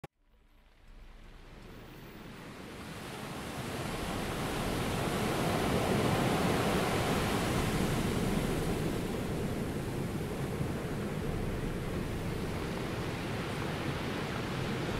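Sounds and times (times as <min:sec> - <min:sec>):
ocean waves rushing: 0:02.0 - 0:14.9.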